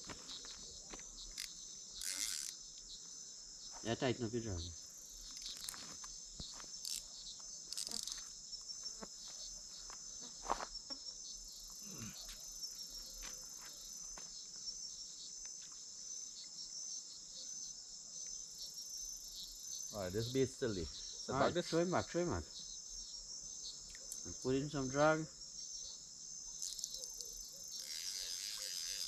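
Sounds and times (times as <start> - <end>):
night insects chorus: 0.0 - 29.0.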